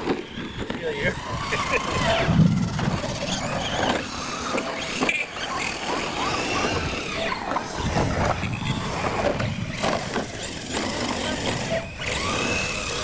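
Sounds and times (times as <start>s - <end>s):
small rc truck motors whining: 0.0s - 13.0s
people talking: 0.6s - 13.0s.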